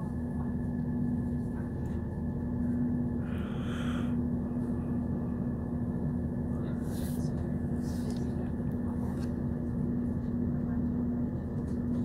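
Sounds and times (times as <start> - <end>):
train rumble and hum: 0.0 - 12.0.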